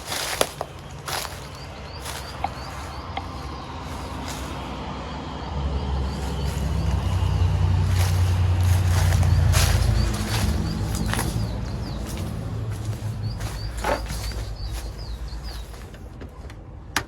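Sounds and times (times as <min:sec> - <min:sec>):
footsteps on a trail: 0:00.0 - 0:05.2, 0:05.9 - 0:16.4
passing vehicle engine rumble: 0:00.0 - 0:17.0.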